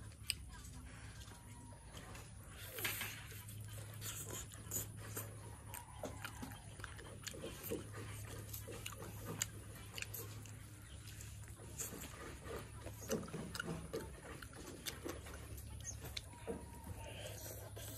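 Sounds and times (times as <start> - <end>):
chewing crispy fried chicken: 0.0 - 17.9.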